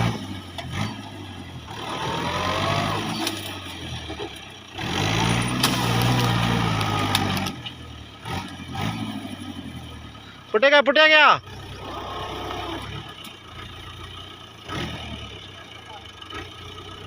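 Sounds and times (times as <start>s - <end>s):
tractor engine revving under load: 0.0s - 10.6s, 11.4s - 17.0s.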